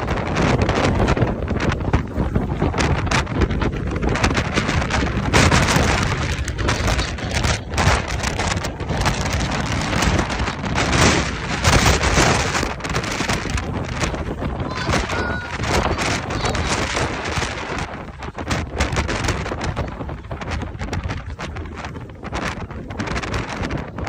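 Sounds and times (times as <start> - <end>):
heavy rain: 0.0 - 24.0
strong wind gusting: 0.0 - 24.0
wind buffeting microphone: 0.0 - 24.0.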